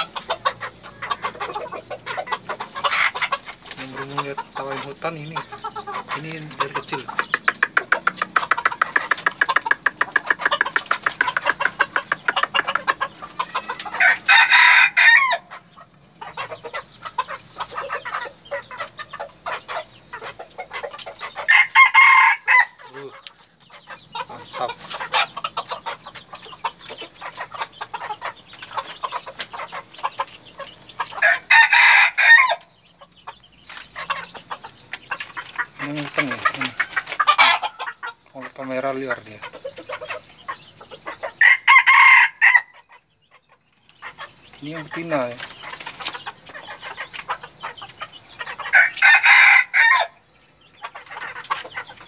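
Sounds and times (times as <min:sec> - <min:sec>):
roosters crowing: 0:00.0 - 0:33.0, 0:33.7 - 0:42.9, 0:44.6 - 0:50.4
rapid clucking of birds: 0:00.0 - 0:52.0.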